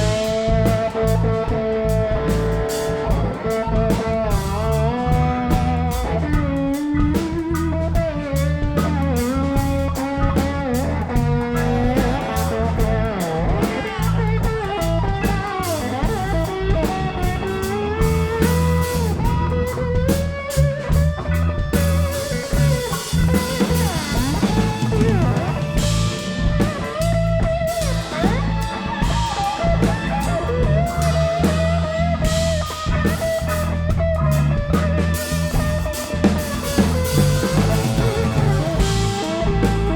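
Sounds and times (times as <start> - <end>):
bass and drum kit: 0.0 - 39.9
electric guitar lead: 0.0 - 39.9.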